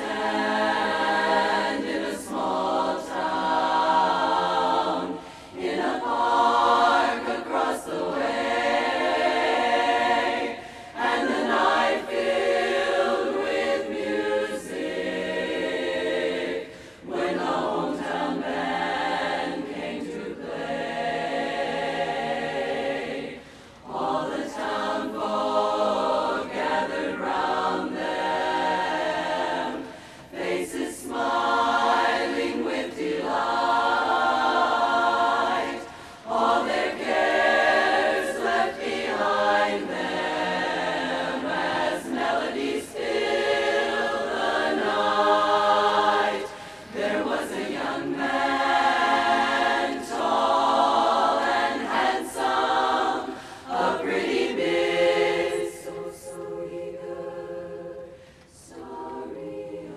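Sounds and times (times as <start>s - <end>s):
women's chorus singing a cappella: 0.0s - 59.9s.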